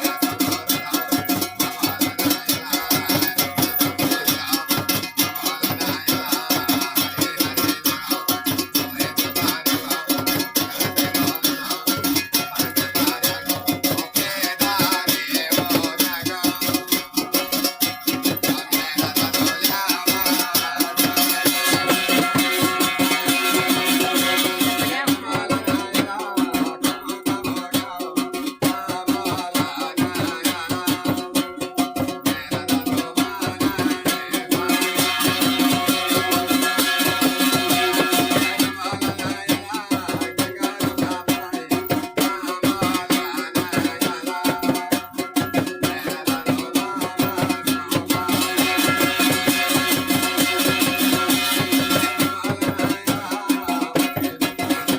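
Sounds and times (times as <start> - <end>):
fast percussion beat: 0.0 - 54.9.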